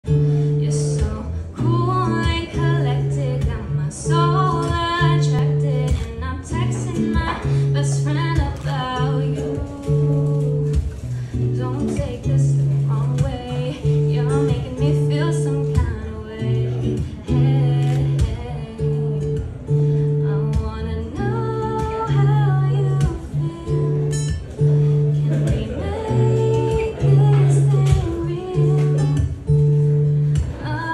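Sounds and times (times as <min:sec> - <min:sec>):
acoustic guitar strumming: 0:00.0 - 0:30.9
woman singing: 0:00.4 - 0:30.9.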